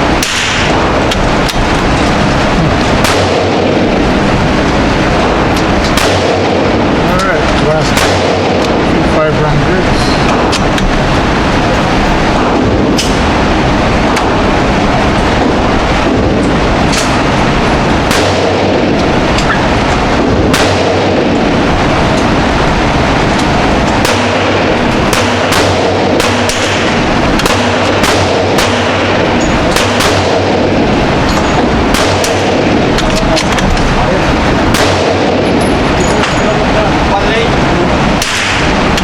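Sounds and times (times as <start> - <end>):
gunshots: 0.0 - 39.0
loud rushing noise: 0.0 - 39.0.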